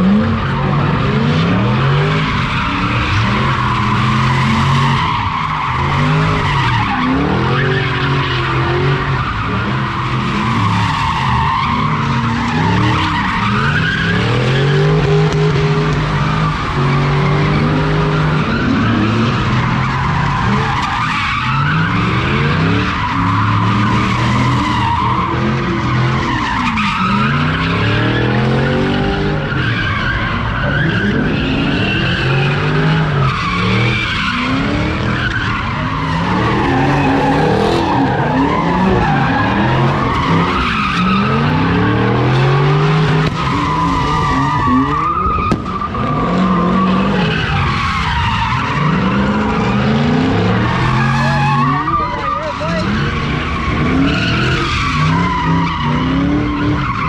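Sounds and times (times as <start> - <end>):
car engine revving: 0.0 - 57.0
tires screeching: 0.0 - 57.0.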